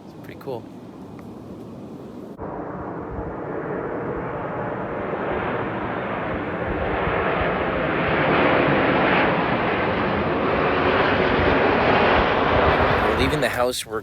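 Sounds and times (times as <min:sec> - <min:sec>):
airplane passing overhead: 0:00.0 - 0:14.0.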